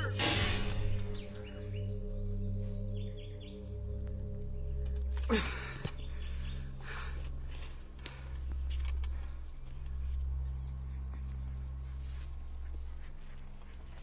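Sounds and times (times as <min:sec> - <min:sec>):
low droning background music: 0:00.0 - 0:14.0.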